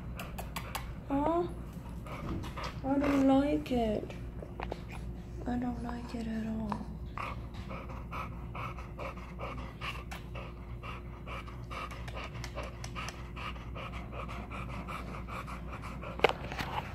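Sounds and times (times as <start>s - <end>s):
dog panting: 0.0s - 16.9s.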